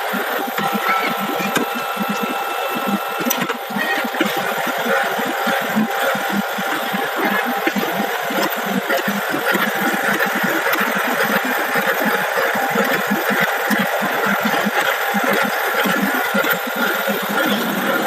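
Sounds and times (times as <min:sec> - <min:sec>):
fabric cutting machine chatter: 0:00.0 - 0:18.0
machine whir: 0:00.0 - 0:18.0.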